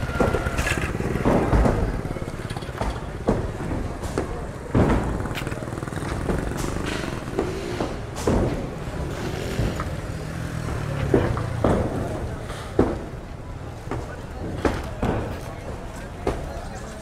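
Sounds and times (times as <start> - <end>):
demolition knocks and thuds: 0.0 - 17.0.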